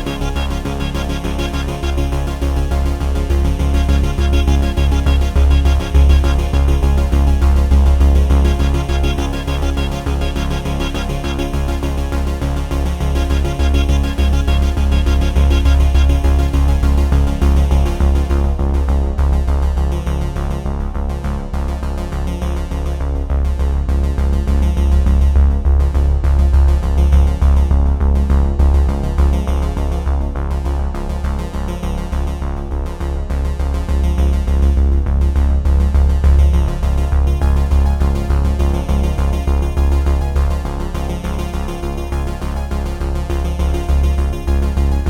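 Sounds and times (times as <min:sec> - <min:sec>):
synthesizer music with bass: 0:00.0 - 0:45.0.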